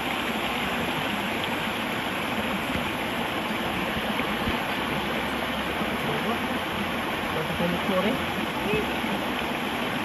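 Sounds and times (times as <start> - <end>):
water pouring over rocks: 0.0 - 10.0.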